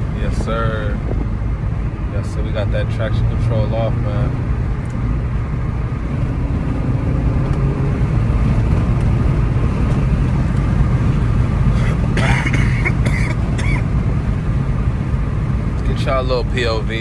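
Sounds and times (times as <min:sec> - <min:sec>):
car engine running: 0:00.0 - 0:17.0
road noise: 0:00.0 - 0:17.0.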